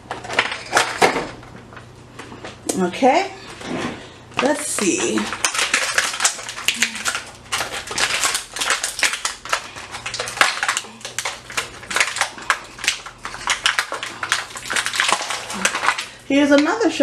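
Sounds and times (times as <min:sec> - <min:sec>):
plastic packet crinkling: 0:00.0 - 0:01.8, 0:04.4 - 0:17.0.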